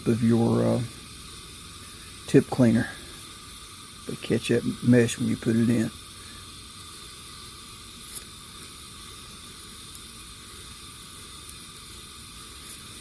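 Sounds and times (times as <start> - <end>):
pressurised burner hissing: 0.0 - 13.0.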